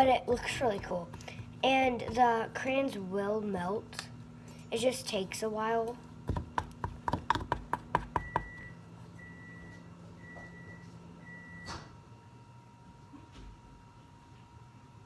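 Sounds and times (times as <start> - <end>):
microwave humming: 0.0 - 15.0.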